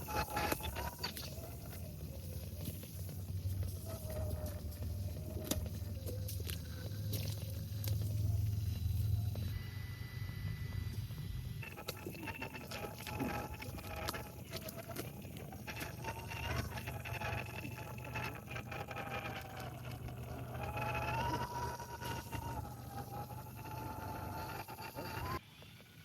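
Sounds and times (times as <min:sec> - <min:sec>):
electric motor and gears whining: 0:00.0 - 0:25.4.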